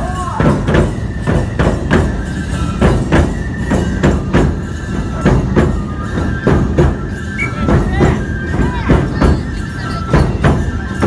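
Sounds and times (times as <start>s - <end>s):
high flute notes: 0.0s - 10.4s
jingling hand cymbals: 0.0s - 11.0s
taiko drums beating: 0.0s - 11.0s.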